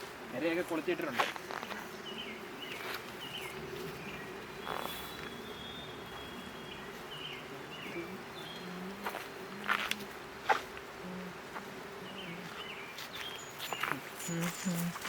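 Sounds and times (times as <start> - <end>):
mosquitoes buzzing: 0.0 - 15.0.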